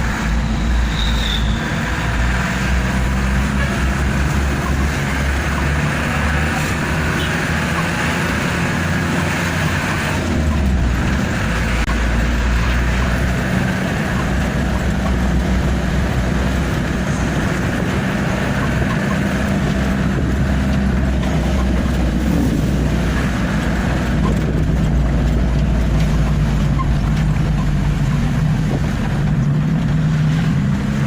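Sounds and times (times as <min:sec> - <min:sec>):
road noise: 0:00.0 - 0:31.0
truck engine droning: 0:00.0 - 0:31.0.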